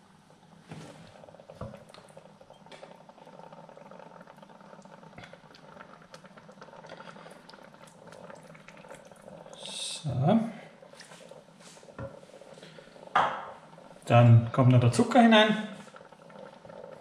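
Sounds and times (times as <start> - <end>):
thick sauce bubbling and popping: 0.3 - 17.0.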